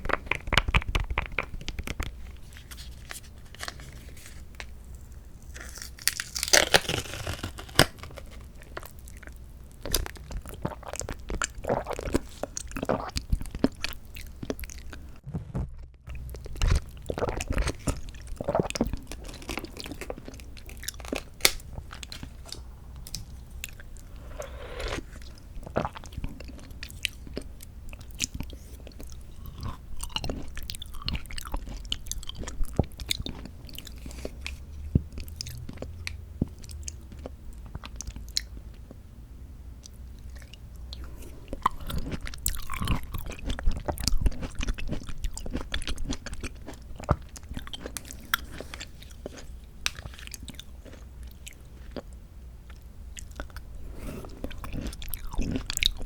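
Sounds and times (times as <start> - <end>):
close chewing with mouth clicks: 5.6 - 15.0, 16.1 - 39.0, 39.8 - 56.0.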